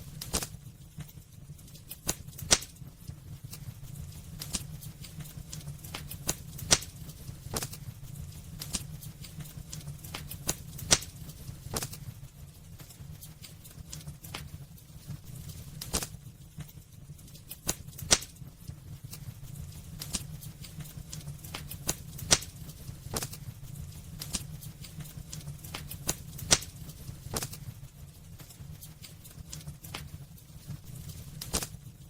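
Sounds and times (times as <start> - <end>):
low steady rumble: 0.0 - 32.0
wood fire crackling: 0.0 - 32.0.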